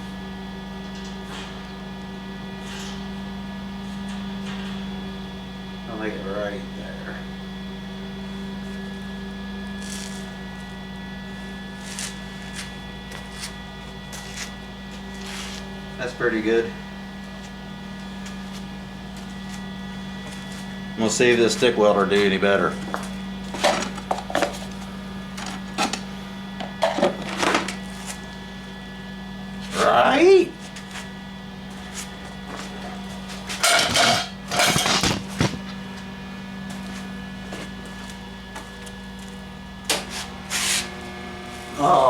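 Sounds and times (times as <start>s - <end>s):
welding machine humming: 7.3s - 42.0s.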